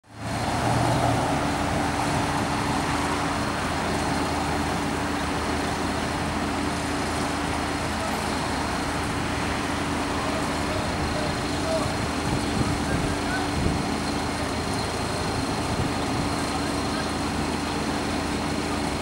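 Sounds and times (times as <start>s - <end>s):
truck engines running: 0.0s - 19.0s.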